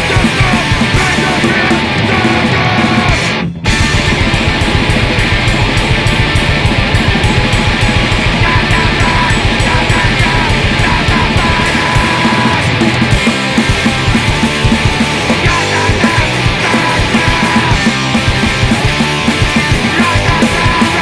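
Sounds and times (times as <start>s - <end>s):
distorted electric guitars: 0.0s - 21.0s
drums: 0.0s - 21.0s.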